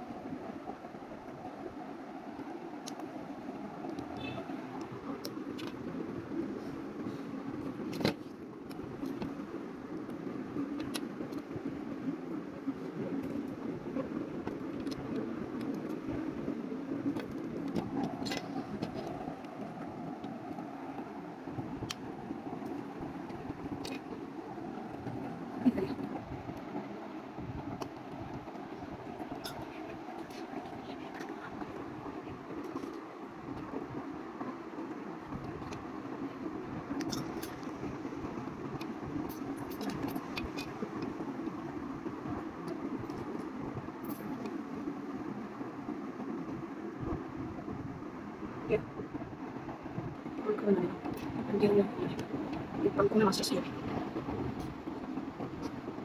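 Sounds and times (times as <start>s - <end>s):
low background rumble: 0.0s - 56.0s
steady background hum: 0.0s - 56.0s.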